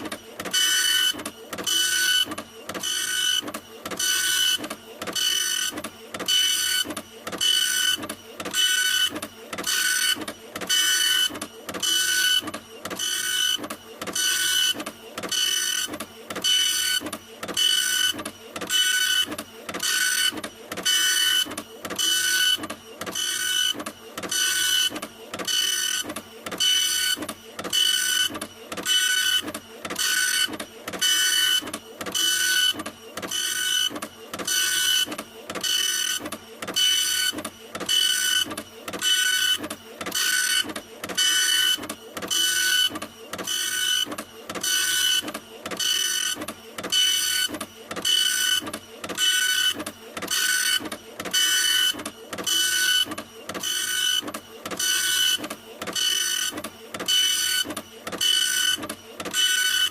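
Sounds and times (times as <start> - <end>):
printer printing: 0.0 - 59.9.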